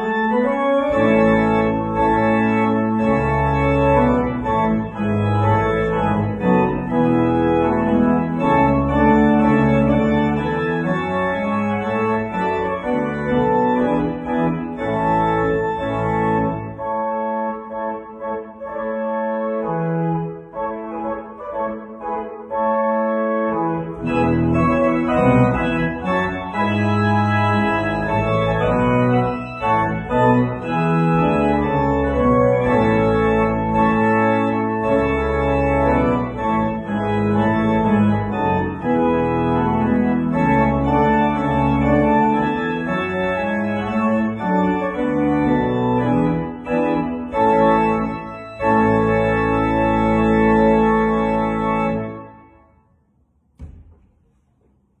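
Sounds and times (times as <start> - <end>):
pipe organ playing chords: 0.0 - 52.9.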